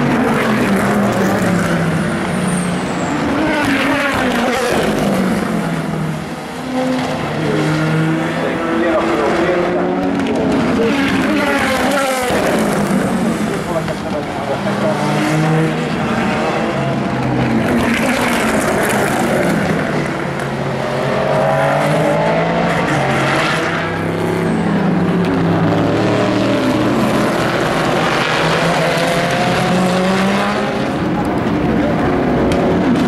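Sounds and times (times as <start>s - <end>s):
racing cars passing: 0.0s - 33.0s.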